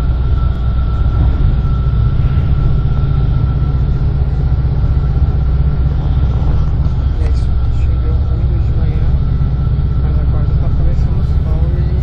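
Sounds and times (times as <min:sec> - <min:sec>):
minibus rumble: 0:00.0 - 0:12.0
thin steady whine: 0:00.0 - 0:12.0.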